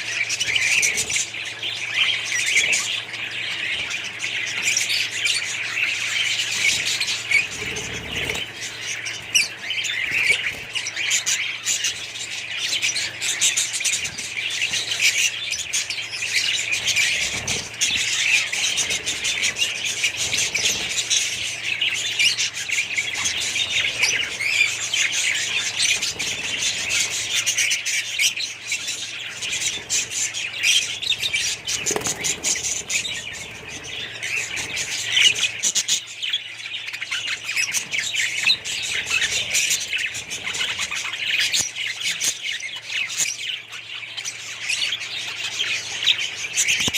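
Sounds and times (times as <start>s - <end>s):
parrots chirping and squawking: 0.0s - 46.9s.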